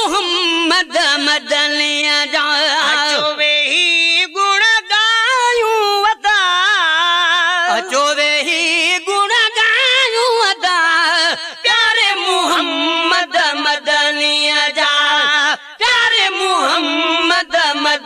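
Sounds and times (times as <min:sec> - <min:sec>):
person singing unaccompanied: 0:00.0 - 0:18.0.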